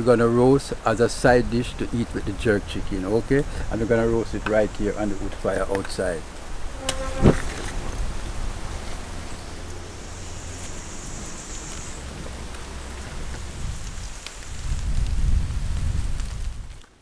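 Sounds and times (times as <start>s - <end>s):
fire crackles: 0.0s - 17.0s
wood fire hissing: 0.0s - 17.0s.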